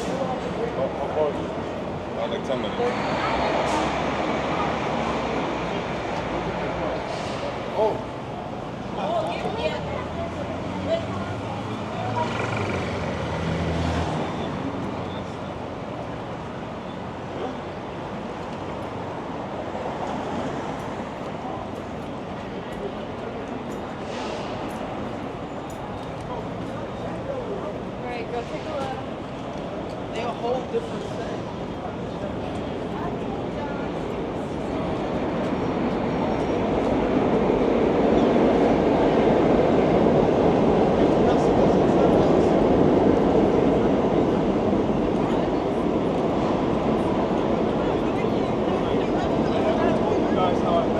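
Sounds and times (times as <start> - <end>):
road noise: 0.0 - 50.9.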